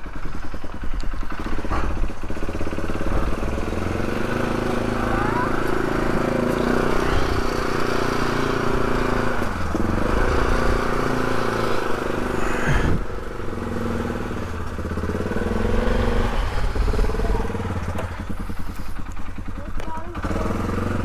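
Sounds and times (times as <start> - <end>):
off-road vehicle engine under load: 0.0 - 21.0.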